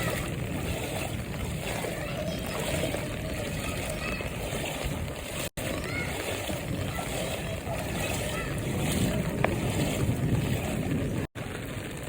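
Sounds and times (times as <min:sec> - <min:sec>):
voices: 0:00.0 - 0:10.2
water splashing under tyres: 0:00.0 - 0:12.0.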